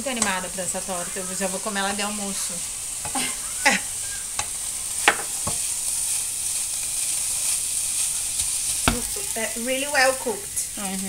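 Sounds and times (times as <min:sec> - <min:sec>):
meat sizzling in a pan: 0:00.0 - 0:11.0
spatula stirring: 0:00.1 - 0:10.5.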